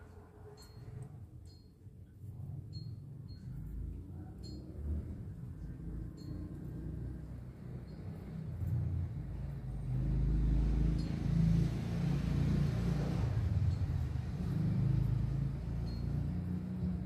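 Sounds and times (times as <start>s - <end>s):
vehicle passing by: 2.4s - 17.0s.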